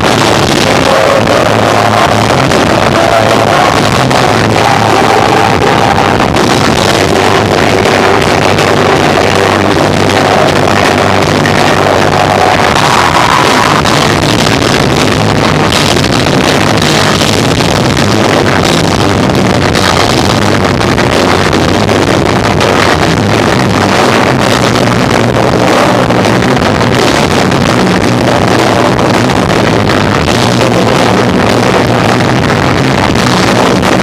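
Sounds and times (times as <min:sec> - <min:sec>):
distorted live rock band: 0:00.0 - 0:34.0.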